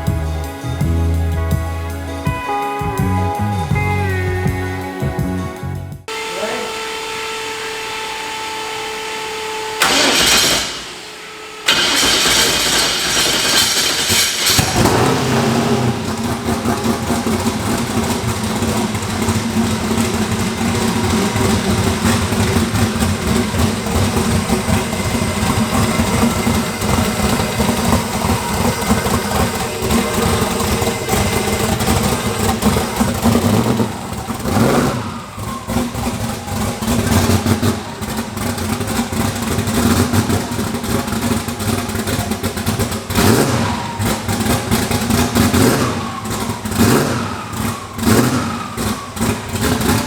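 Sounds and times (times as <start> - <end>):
car engine idling: 6.1 - 50.0
engine cranking: 6.1 - 50.0.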